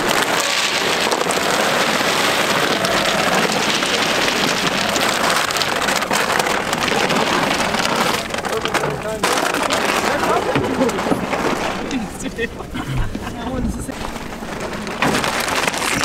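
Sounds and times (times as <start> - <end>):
feed pellets pouring into plastic trough: 0.0 - 12.3, 14.0 - 16.0.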